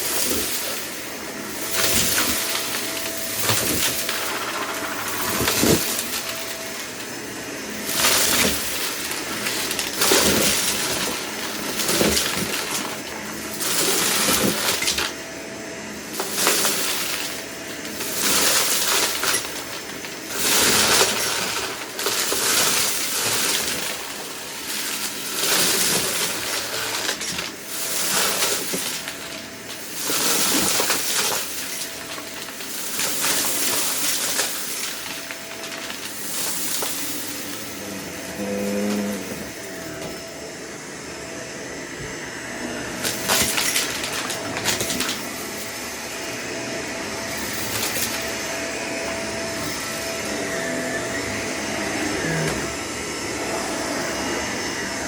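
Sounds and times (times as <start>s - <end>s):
debris rattling in vacuum: 0.0s - 55.0s
vacuum cleaner motor whine: 0.0s - 55.0s.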